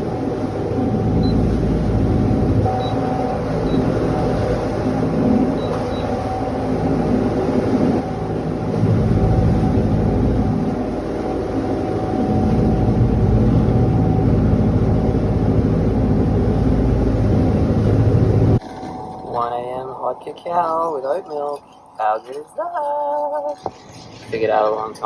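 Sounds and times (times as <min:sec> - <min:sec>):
boat engine humming: 0:00.0 - 0:25.0.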